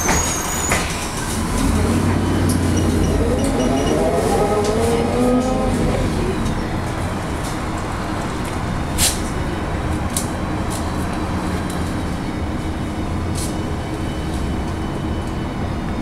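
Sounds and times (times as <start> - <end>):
bus engine drone: 0.0 - 16.0
road noise: 0.0 - 16.0.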